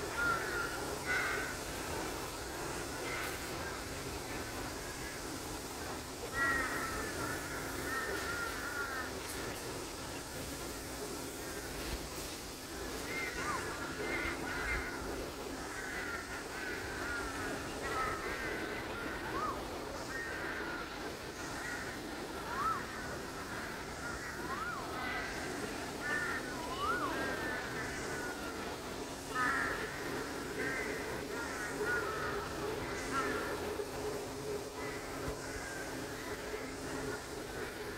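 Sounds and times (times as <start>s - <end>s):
birds calling harshly: 0.0s - 37.9s
steady low hum: 0.0s - 37.9s.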